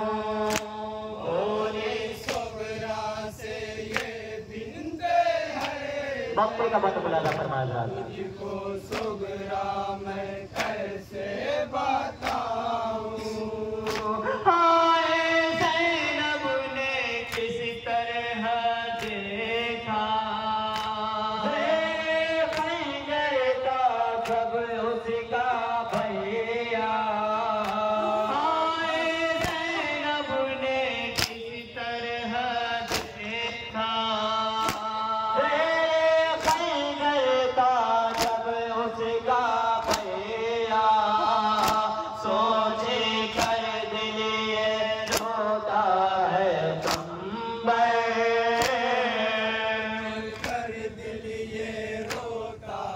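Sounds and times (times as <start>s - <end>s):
men singing a lament: 0.0s - 52.9s
rhythmic chest-beating slaps: 0.0s - 52.9s.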